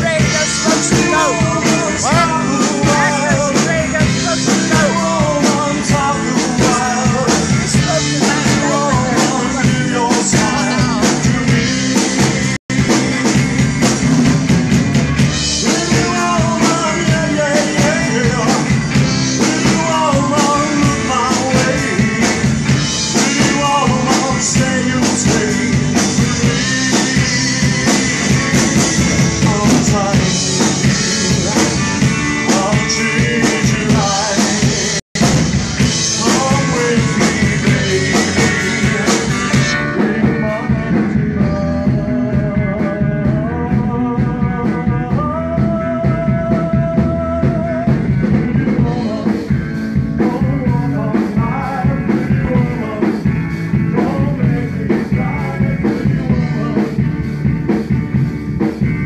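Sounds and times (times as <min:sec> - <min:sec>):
man singing: 0:00.0 - 0:13.4, 0:15.1 - 0:57.3
rock and roll band playing: 0:00.0 - 0:59.0.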